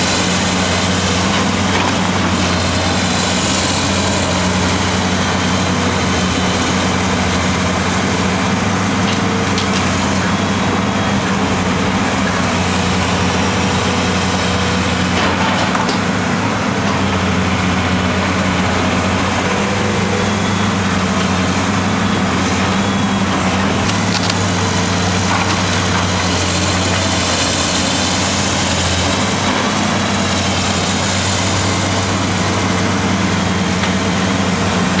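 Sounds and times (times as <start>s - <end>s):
excavator diesel engine droning: 0.0s - 35.0s
hydraulics working: 0.0s - 35.0s.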